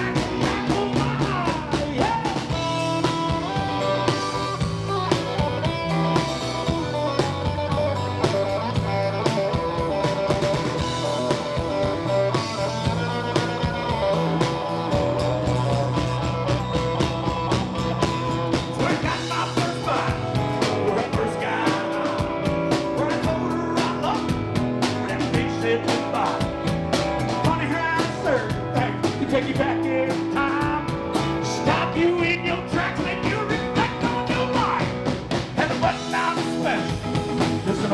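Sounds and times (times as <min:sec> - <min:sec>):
bass: 0:00.0 - 0:37.9
drum kit beat: 0:00.0 - 0:37.9
electric guitar: 0:00.0 - 0:37.9.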